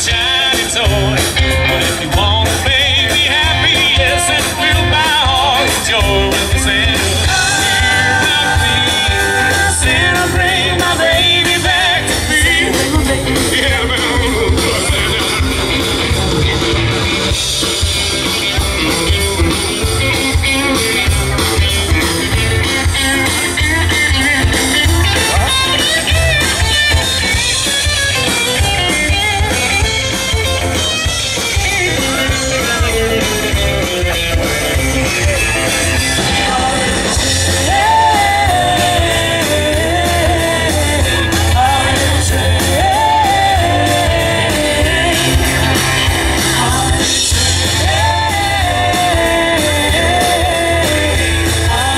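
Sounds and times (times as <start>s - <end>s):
live rock and roll band: 0.0s - 51.9s.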